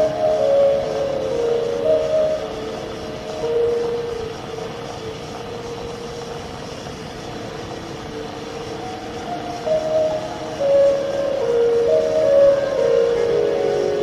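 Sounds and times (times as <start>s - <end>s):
film score held notes: 0.0s - 14.0s.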